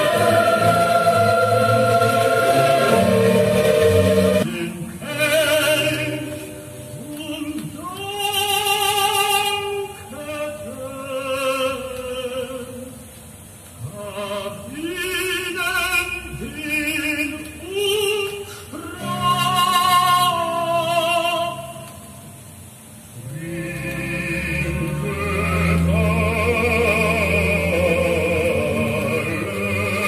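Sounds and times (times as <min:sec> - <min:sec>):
classical singer with vibrato: 0:00.0 - 0:30.0.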